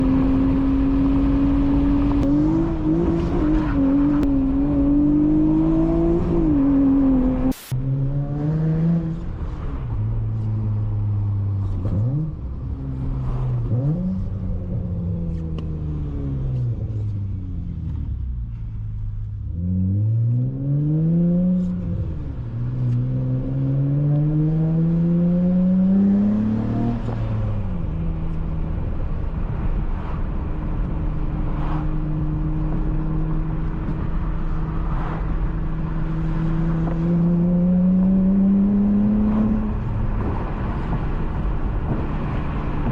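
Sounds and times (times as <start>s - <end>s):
car engine revving: 0.0s - 10.9s, 19.5s - 42.9s.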